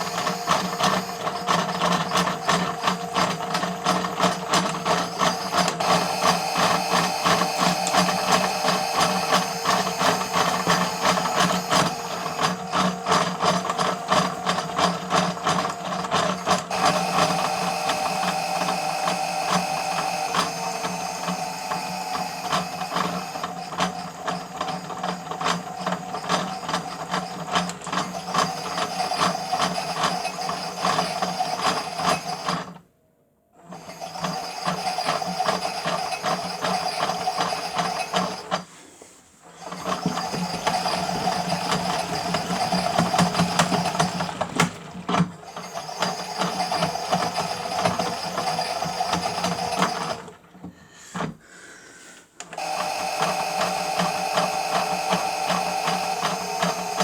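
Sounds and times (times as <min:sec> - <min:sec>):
toy washing machine whirring: 0:00.0 - 0:32.8, 0:33.6 - 0:38.8, 0:39.4 - 0:57.0.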